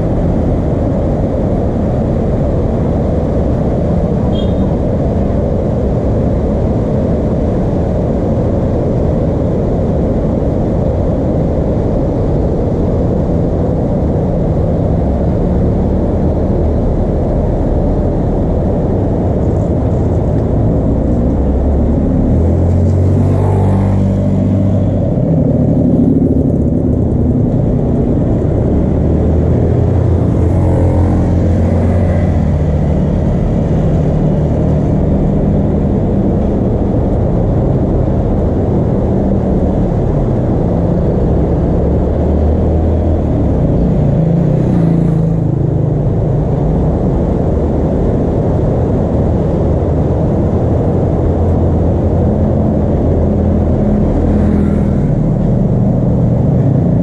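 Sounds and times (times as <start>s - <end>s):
low engine-like rumble: 0.0s - 57.0s.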